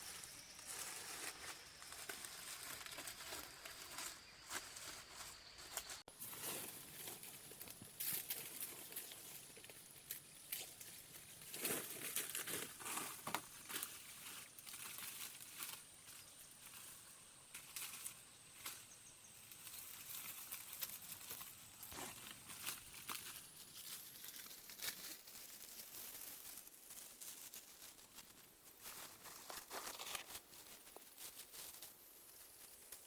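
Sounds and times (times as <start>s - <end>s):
dry palm leaves rustling: 0.0s - 33.0s.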